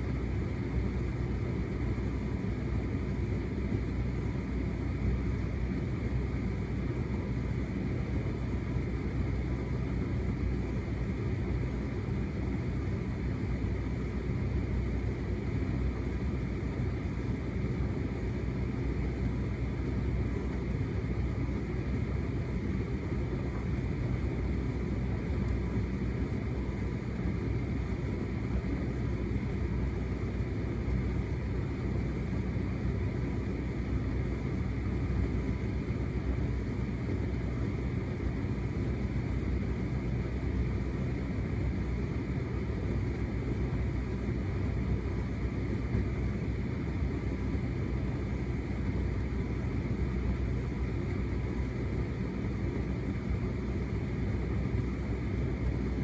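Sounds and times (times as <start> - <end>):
tumble dryer rumbling: 0.0 - 56.0.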